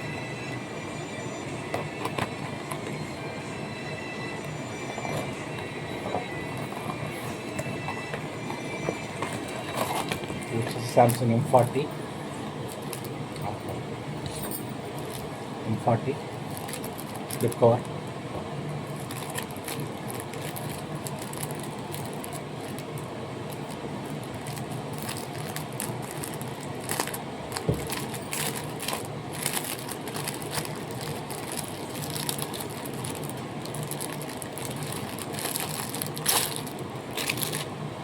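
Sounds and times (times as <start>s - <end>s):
steady low hum: 0.0s - 38.0s
plastic packaging crinkling: 5.0s - 13.3s, 14.4s - 18.0s, 18.6s - 37.8s.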